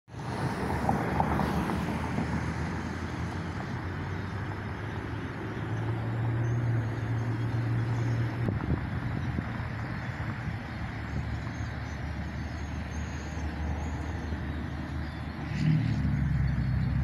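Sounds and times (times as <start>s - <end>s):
low engine hum: 0.1s - 17.0s
traffic noise: 0.1s - 17.0s.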